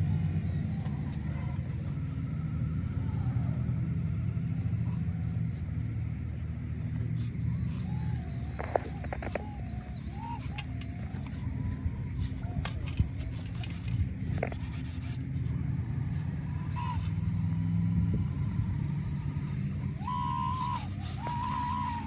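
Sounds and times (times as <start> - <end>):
hydraulic pump whine: 0.0 - 22.0.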